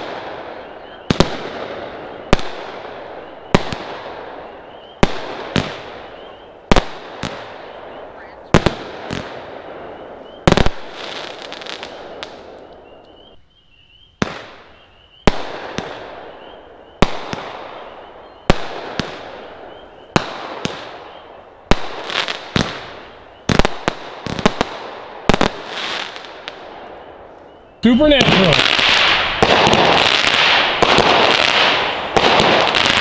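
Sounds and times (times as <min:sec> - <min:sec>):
firework bangs with echo: 0:00.0 - 0:12.6, 0:14.2 - 0:27.1, 0:27.8 - 0:33.0.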